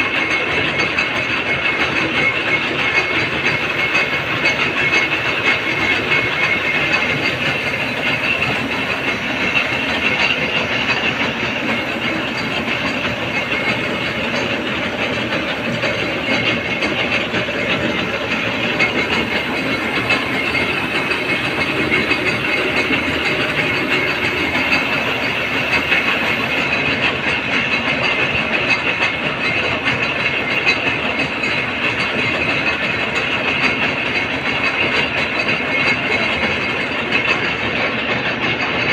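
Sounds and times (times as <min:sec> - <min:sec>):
machine metallic clatter: 0:00.0 - 0:38.9.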